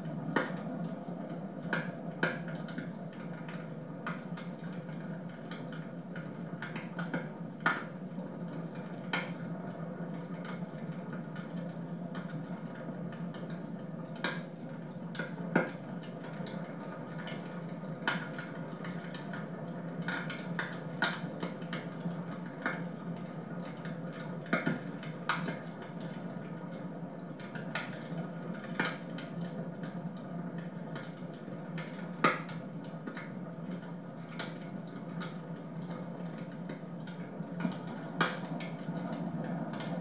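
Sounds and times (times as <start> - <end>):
steady low hum: 0.0 - 40.0
wood fire crackling and popping: 0.1 - 40.0.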